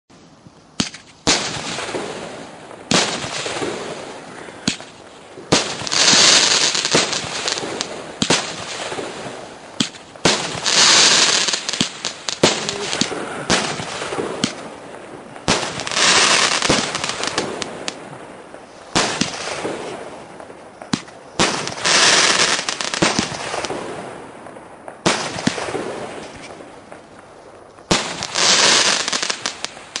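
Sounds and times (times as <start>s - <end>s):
crackling firework stars: 0.1s - 30.0s
firework shots popping: 0.8s - 30.0s.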